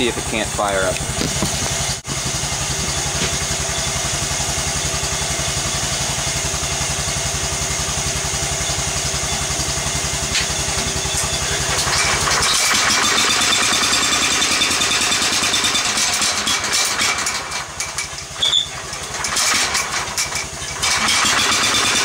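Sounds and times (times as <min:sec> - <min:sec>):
small tractor engine idling: 0:00.0 - 0:22.0.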